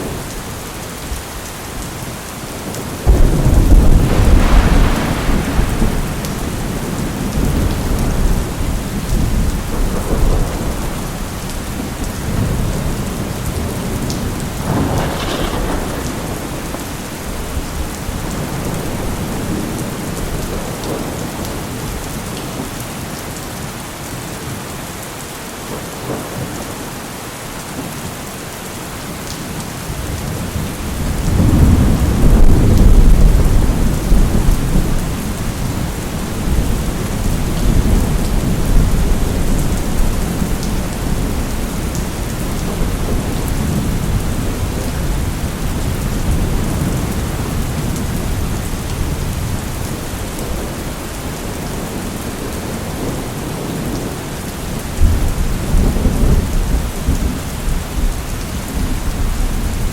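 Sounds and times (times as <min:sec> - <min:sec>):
steady rain: 0:00.0 - 0:59.9
thunder rumbling: 0:02.5 - 0:22.1, 0:30.0 - 0:59.9.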